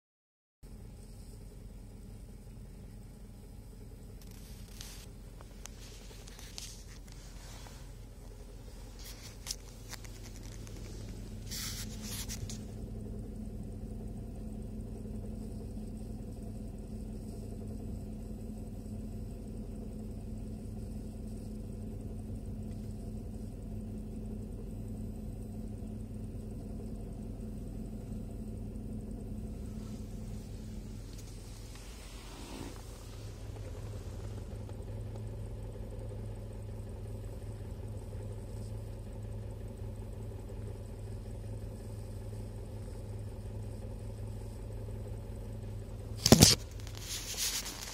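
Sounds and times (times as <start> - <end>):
car engine running: 0.6 - 47.9.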